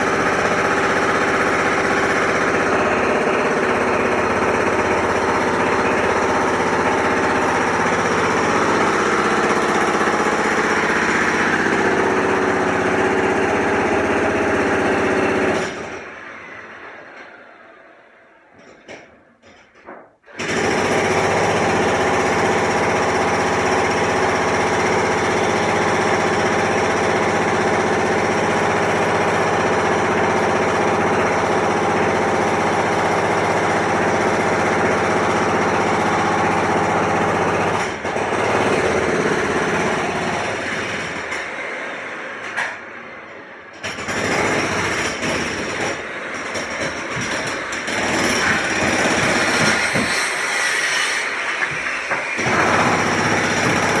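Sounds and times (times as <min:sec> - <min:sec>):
jackhammer pounding: 0:00.0 - 0:16.3, 0:20.3 - 0:42.8, 0:43.7 - 0:54.0.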